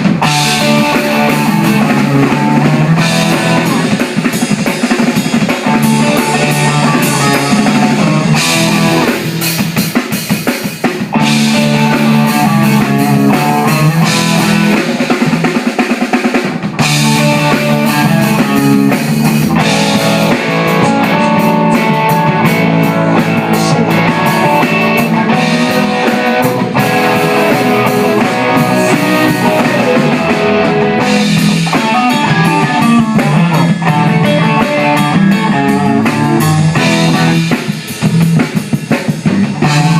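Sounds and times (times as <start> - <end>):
band playing live: 0.0 - 39.9.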